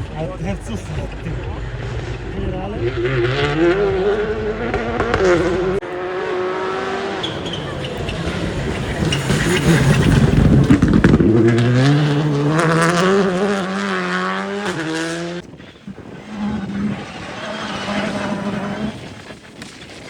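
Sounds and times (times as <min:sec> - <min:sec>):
rally car engine accelerating: 0:00.0 - 0:15.4, 0:16.2 - 0:19.2.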